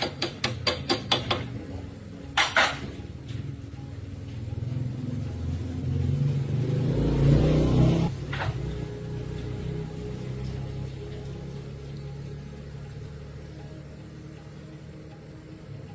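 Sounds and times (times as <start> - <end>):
motorcycle engine revving and idling: 0.0 - 15.9.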